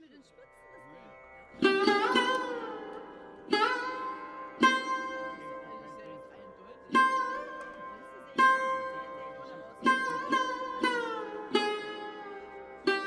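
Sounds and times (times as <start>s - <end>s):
plucked string notes bending: 0.7s - 13.0s.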